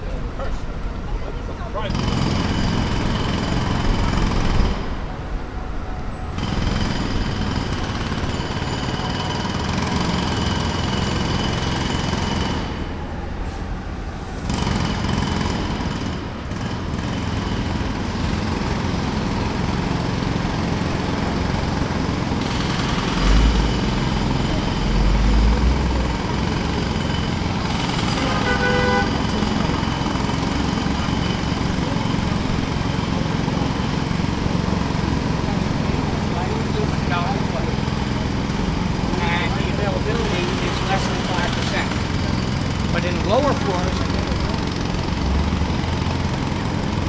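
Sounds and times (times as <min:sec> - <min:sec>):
jackhammer hammering: 0:01.9 - 0:05.1, 0:06.4 - 0:13.2, 0:14.5 - 0:47.0.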